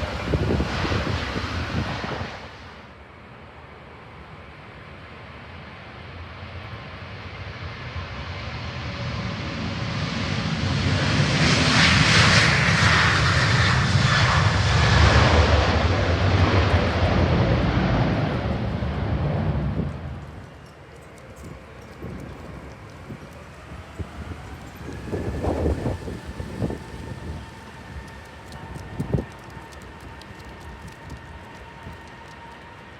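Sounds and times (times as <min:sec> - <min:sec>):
jet airliner passing: 0:00.0 - 0:32.9.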